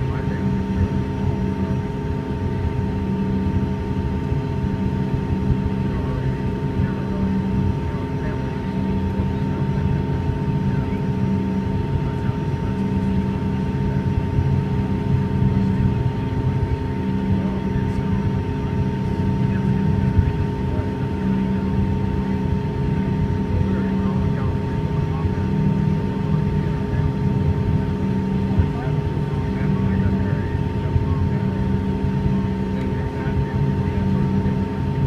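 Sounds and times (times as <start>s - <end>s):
jet engines idling with whine: 0.0s - 35.0s
low pulsing hum: 0.0s - 35.0s.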